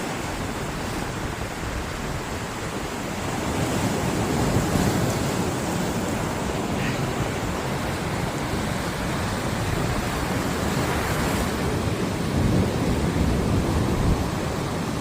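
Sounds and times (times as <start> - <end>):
sea waves washing in: 0.0 - 15.0
wind buffeting microphone: 0.0 - 15.0.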